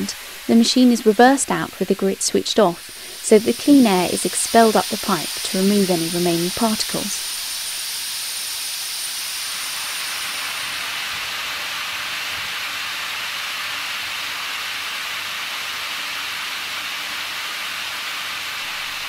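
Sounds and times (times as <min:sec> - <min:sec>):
compressed air hissing: 0:00.0 - 0:19.0.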